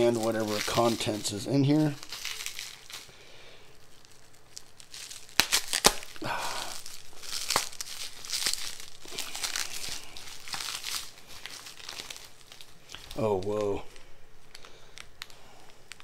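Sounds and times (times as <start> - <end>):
packing tape tearing and crinkling: 0.0 - 16.0.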